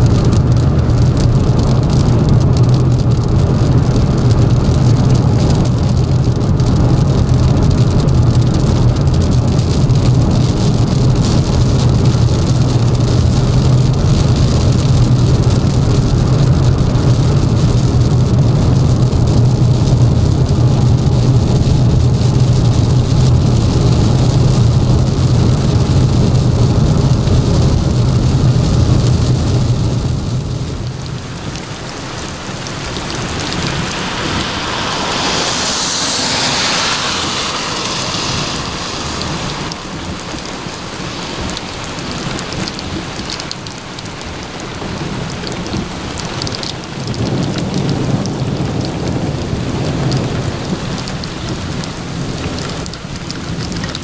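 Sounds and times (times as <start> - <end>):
low rumble: 0.0 - 43.6
car engine and road noise: 0.0 - 54.0
rain falling on wet street: 0.0 - 54.0
tyres hissing on wet pavement: 0.0 - 54.0.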